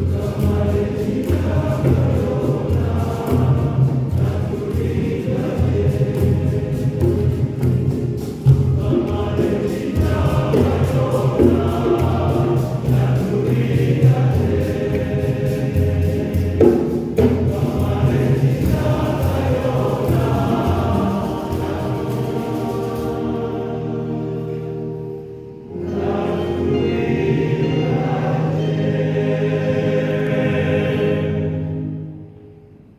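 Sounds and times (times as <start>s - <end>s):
church choir singing: 0.0s - 32.9s.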